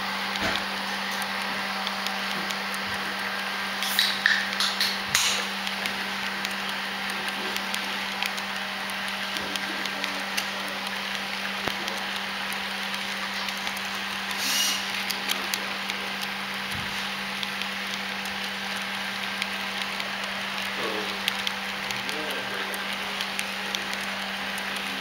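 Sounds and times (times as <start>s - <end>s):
model train wheels clattering: 3.8s - 25.0s.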